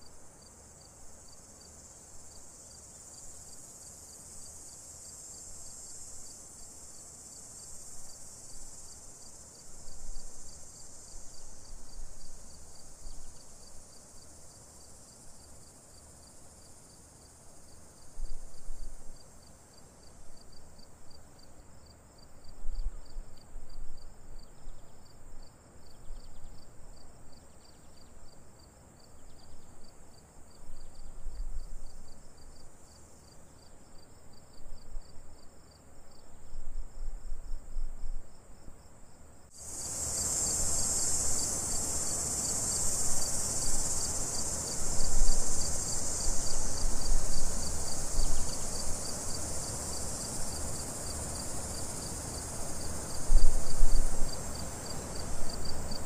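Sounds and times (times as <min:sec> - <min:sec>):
crickets chirping: 0:00.0 - 0:56.0
high insect hum: 0:00.0 - 0:56.0.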